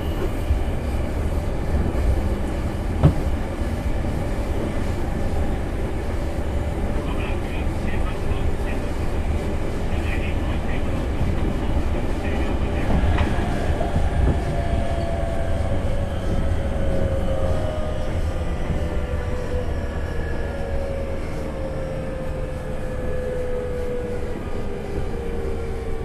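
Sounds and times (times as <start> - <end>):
train wheel and rail rumble: 0.0 - 26.0.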